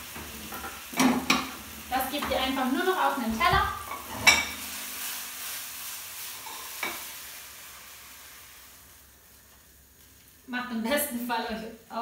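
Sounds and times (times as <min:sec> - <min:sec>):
pasta sizzling in oil: 0:00.0 - 0:12.0.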